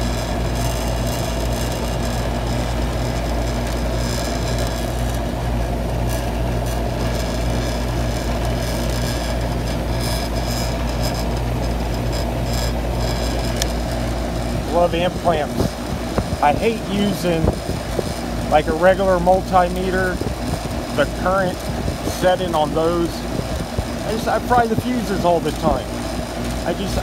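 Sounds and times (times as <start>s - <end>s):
air conditioner unit humming: 0.0s - 27.0s.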